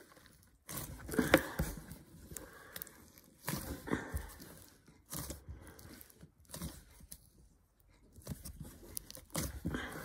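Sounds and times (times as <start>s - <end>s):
foil crinkling and crackling: 0.0s - 10.0s.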